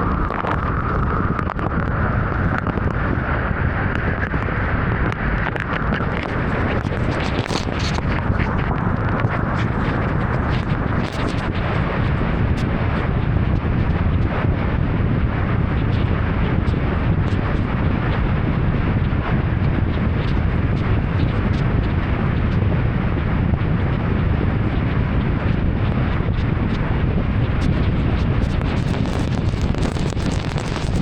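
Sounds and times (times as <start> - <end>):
heavy rain and tyre noise: 0.0 - 19.4, 25.6 - 31.0
deep rumble: 0.0 - 31.0.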